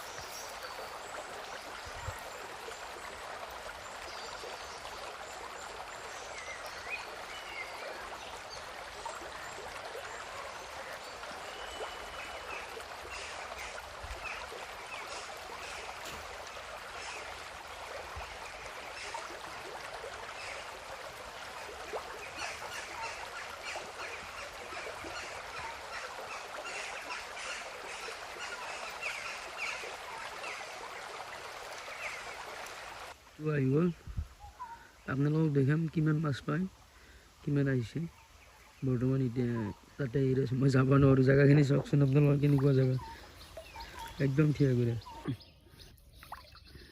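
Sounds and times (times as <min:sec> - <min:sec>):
river water trickling: 0:00.0 - 0:46.9.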